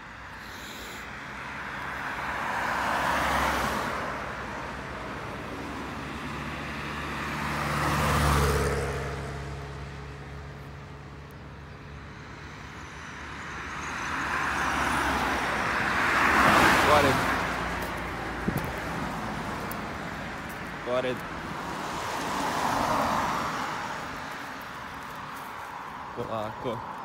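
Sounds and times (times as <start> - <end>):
cars passing on road: 0.0 - 27.0.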